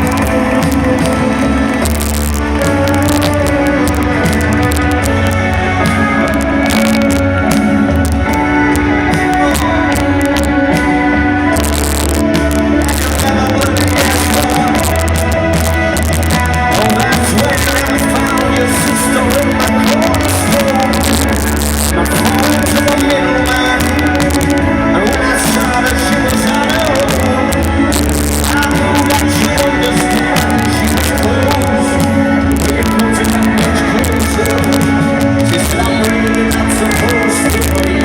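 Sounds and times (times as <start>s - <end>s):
crackling distortion: 0.0s - 38.0s
rock band playing live: 0.0s - 38.0s.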